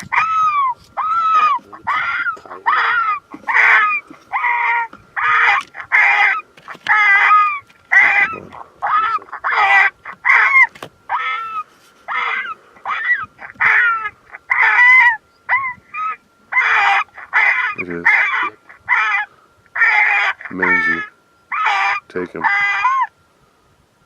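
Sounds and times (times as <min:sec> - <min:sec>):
harsh yelping calls: 0:00.0 - 0:23.2.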